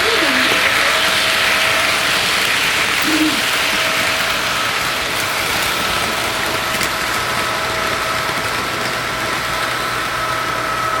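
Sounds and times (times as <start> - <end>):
model train whirring on track: 0.0 - 11.0.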